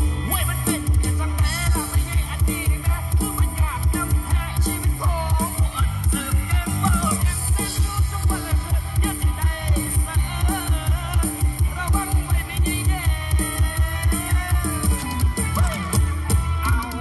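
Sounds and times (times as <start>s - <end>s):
music with heavy bass beat: 0.0s - 17.0s.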